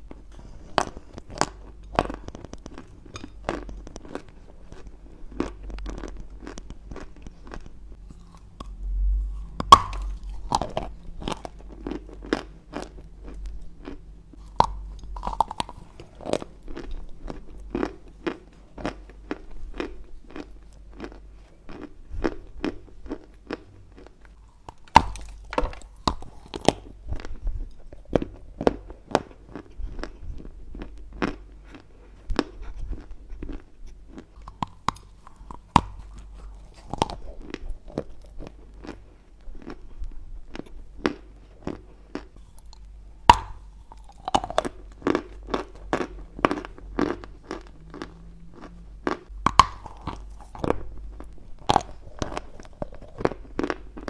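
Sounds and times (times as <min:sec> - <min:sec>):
crunching and chewing clay: 0:00.0 - 0:54.0.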